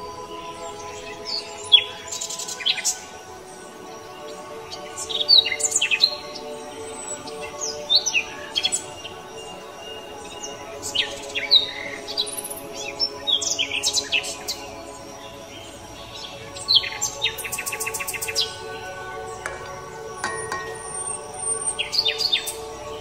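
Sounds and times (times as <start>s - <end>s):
birdsong chirps and calls: 0.0s - 23.0s
soft background music: 0.0s - 23.0s.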